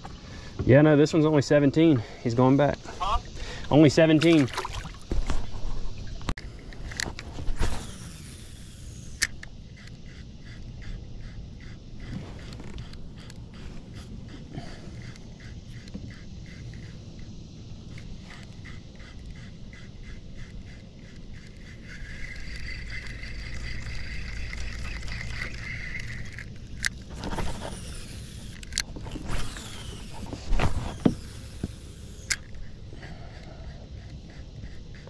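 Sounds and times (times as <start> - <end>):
cicadas buzzing: 0.0 - 35.0.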